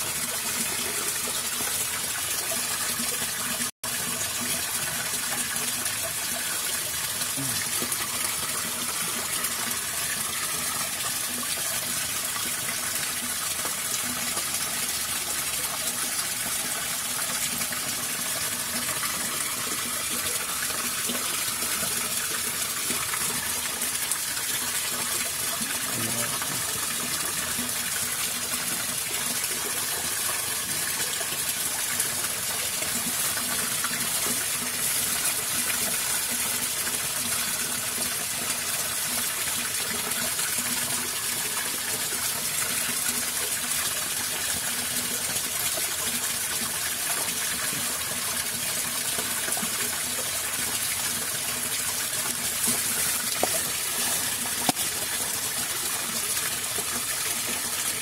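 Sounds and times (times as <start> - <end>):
water flowing in a ditch: 0.0 - 58.0.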